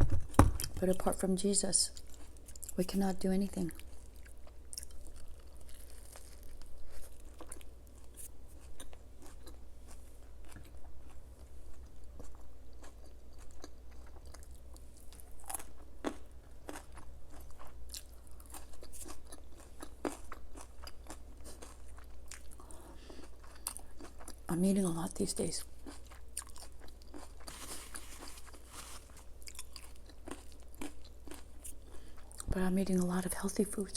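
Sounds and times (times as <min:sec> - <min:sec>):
crunchy food being chewed: 0:01.9 - 0:03.0, 0:03.6 - 0:33.1.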